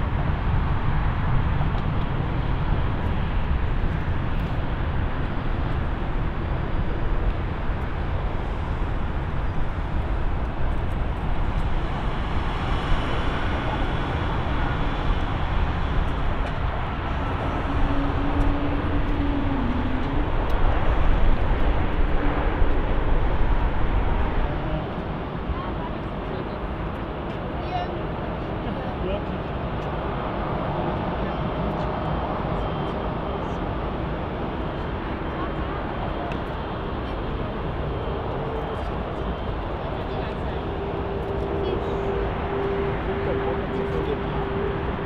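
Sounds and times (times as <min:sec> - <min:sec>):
airliner engine rumble: 0:00.0 - 0:45.0.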